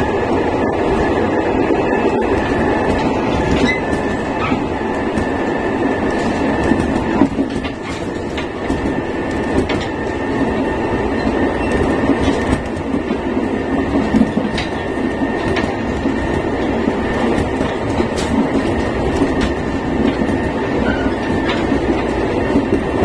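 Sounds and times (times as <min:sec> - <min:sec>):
wheel and track noise: 0:00.0 - 0:23.0
wheels clicking over rail joints: 0:02.1 - 0:23.0.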